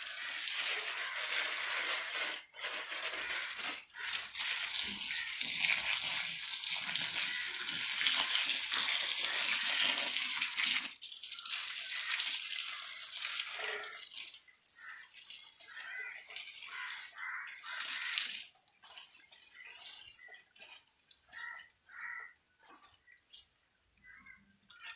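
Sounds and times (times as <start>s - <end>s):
hose spraying water on leaves: 0.0s - 20.9s.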